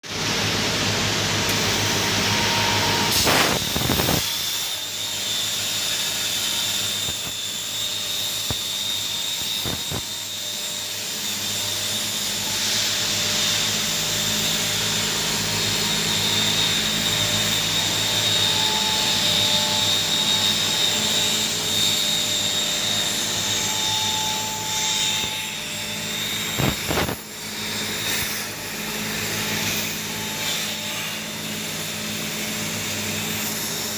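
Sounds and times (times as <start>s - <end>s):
high steady whine: 0.1s - 5.0s, 6.1s - 33.9s
plasma torch cutting metal: 0.1s - 33.9s.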